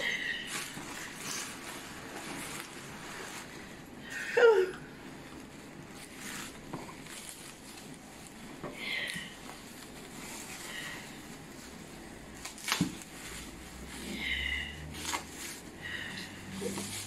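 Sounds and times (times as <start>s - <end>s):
packing paper and bubble wrap rustling: 0.0s - 17.0s.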